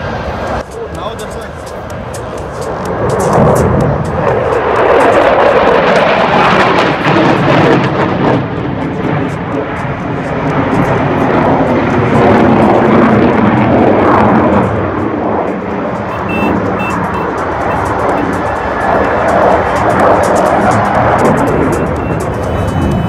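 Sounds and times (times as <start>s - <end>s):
jet engine roar overhead: 0.0s - 23.0s.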